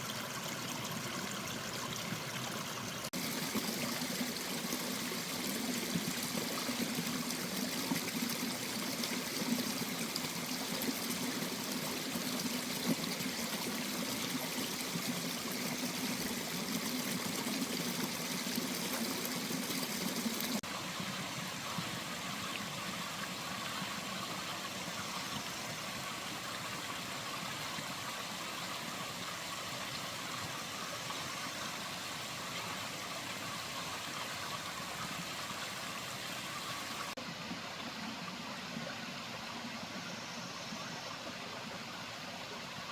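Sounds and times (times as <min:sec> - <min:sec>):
stream flowing: 0:00.0 - 0:42.9.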